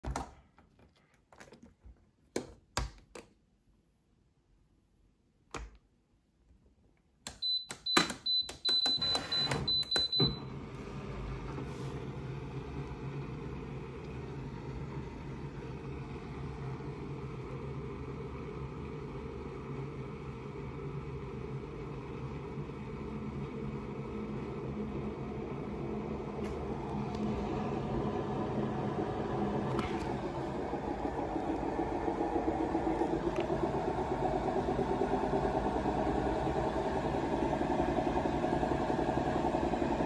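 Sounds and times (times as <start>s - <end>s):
washing machine low hum: 7.4s - 40.0s.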